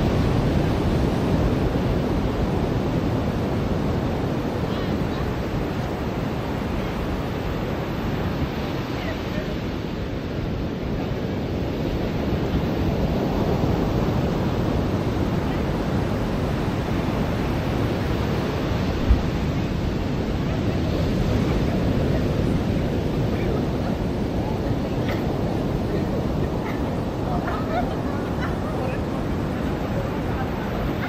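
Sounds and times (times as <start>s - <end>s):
waves breaking on beach: 0.0s - 31.0s.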